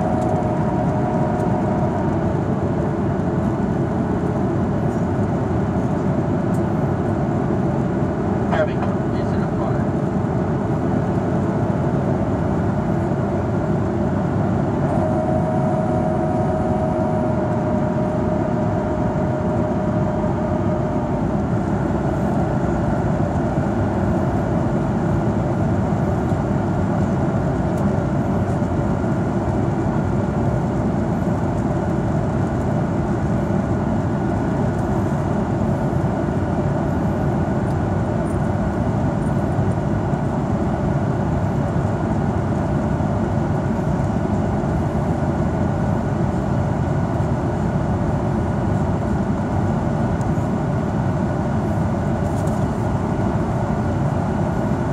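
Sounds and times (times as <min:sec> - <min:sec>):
faint steady whine: 0:00.0 - 0:54.9
airplane cabin rumbling hiss: 0:08.4 - 0:54.9.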